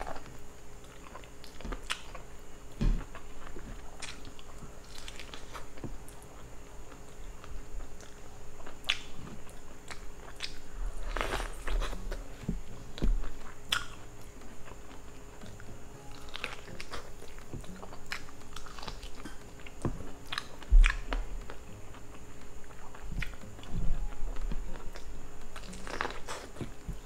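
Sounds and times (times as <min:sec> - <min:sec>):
person biting and chewing corn: 0:02.9 - 0:27.0.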